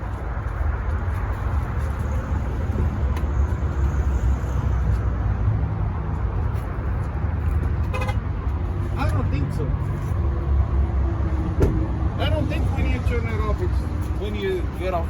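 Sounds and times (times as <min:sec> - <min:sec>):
low rumble of vehicle and road: 0:00.0 - 0:15.0.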